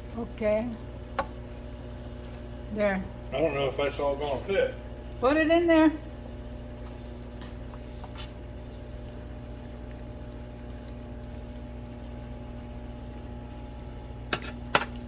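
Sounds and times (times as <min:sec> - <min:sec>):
rice frying in a pan: 0:00.0 - 0:15.0.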